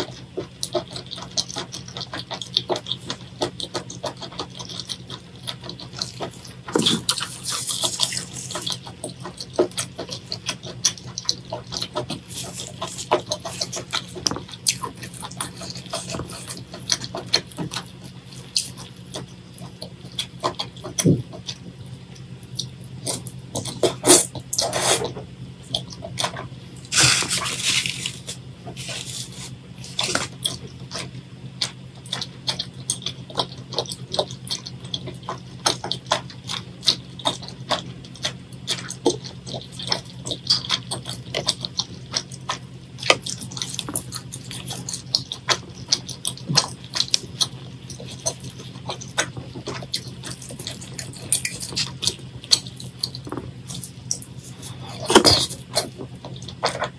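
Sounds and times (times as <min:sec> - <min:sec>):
steady low hum: 0:00.0 - 0:56.9
wet chewing and mouth smacking: 0:00.0 - 0:56.9.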